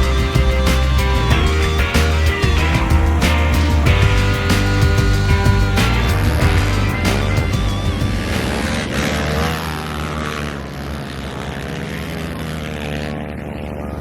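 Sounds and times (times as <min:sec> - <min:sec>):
racing engines revving: 0:00.0 - 0:14.0.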